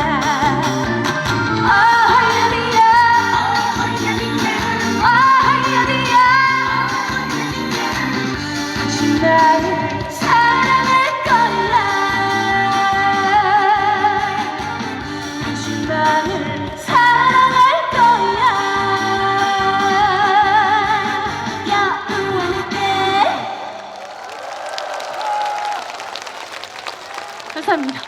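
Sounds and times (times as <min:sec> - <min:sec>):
band backing music: 0:00.0 - 0:23.5
woman singing with vibrato: 0:00.0 - 0:23.7.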